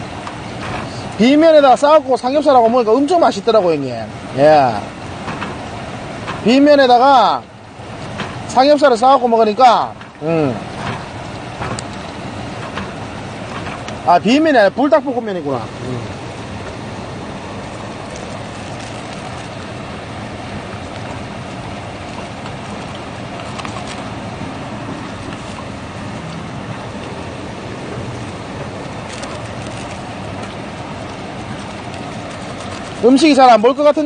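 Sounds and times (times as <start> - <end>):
sea: 0.0 - 34.0
wind rumble: 0.0 - 34.0.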